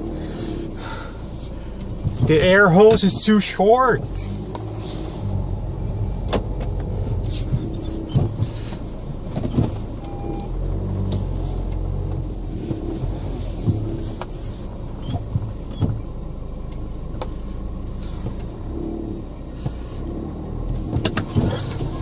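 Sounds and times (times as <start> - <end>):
diesel engine running at low speed: 0.0 - 22.0.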